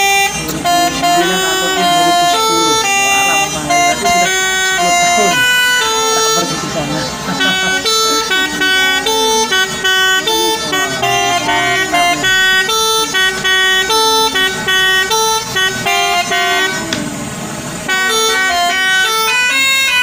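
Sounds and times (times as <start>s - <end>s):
truck musical air horn melody: 0.0s - 20.0s.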